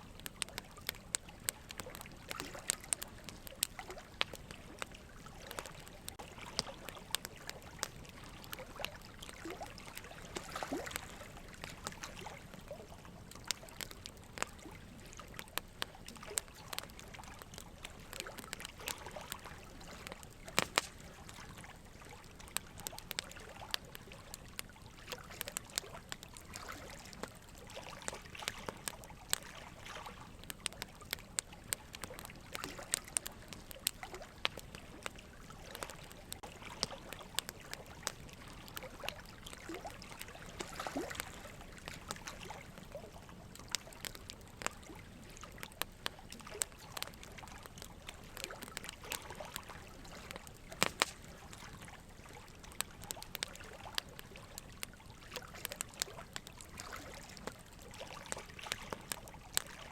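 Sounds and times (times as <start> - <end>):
small clicks and crackles: 0.0 - 59.9.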